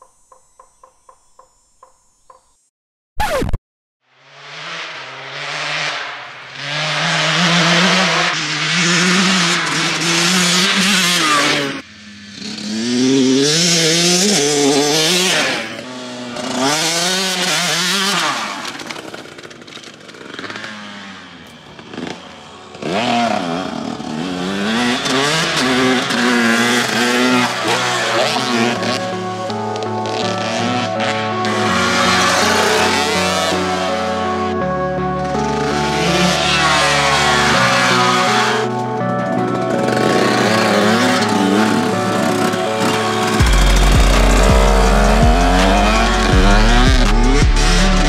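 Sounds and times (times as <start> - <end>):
motocross bike engine revving: 4.2 - 48.0.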